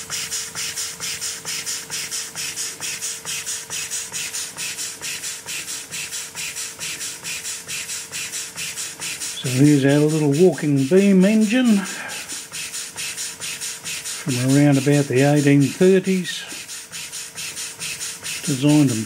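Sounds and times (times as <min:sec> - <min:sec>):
steam engine exhaust puffing: 0:00.0 - 0:19.0.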